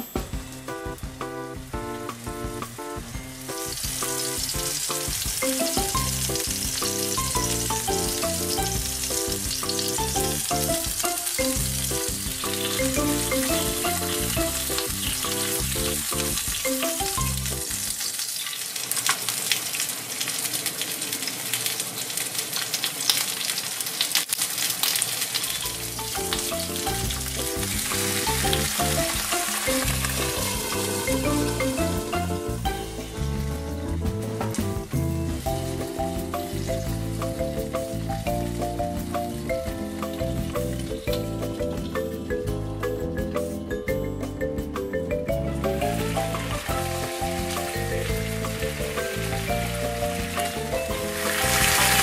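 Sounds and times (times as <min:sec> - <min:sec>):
background music: 0:00.0 - 0:18.0, 0:25.7 - 0:52.0
peppers sizzling in frying pan: 0:02.1 - 0:33.6, 0:34.4 - 0:42.0, 0:45.8 - 0:52.0.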